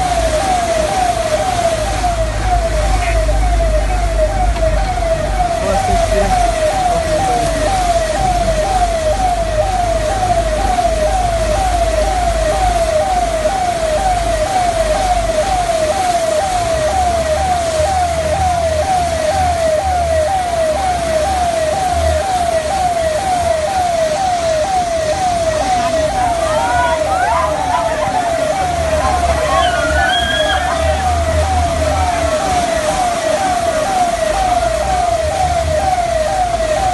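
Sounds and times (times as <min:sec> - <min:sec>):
electronic siren whooping: 0:00.0 - 0:36.9.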